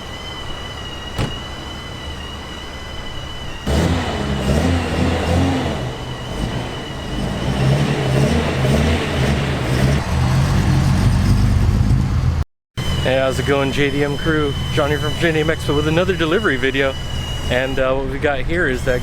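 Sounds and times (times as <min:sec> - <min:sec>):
car engine revving: 0:03.6 - 0:19.0.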